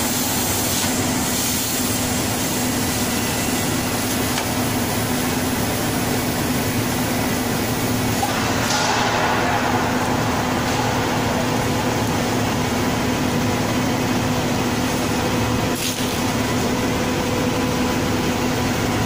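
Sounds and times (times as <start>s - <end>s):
packing machine hum: 0.0s - 19.0s.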